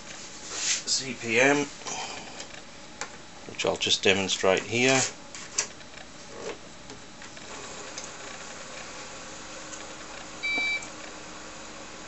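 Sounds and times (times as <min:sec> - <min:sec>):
computer hum and hiss: 0:00.0 - 0:12.0.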